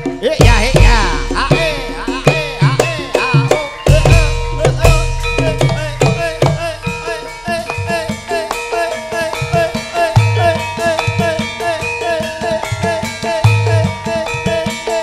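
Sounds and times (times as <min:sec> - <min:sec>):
drum strokes: 0:00.0 - 0:15.0
gamelan music: 0:00.0 - 0:15.0
struck bronze gong-chime notes: 0:00.7 - 0:15.0.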